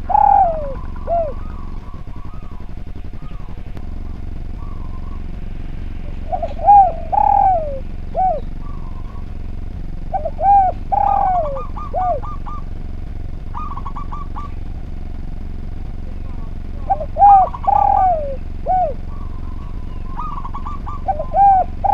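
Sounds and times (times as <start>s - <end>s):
dove cooing: 0.0s - 21.9s
steady low hum: 0.0s - 21.9s.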